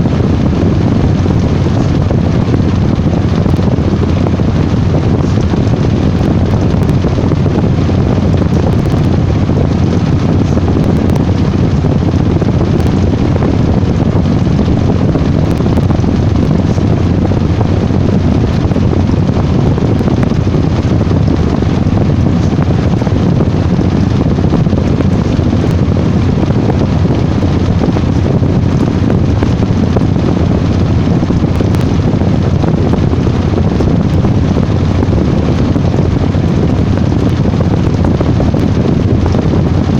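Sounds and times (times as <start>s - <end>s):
washing machine rumbling: 0.0s - 39.9s.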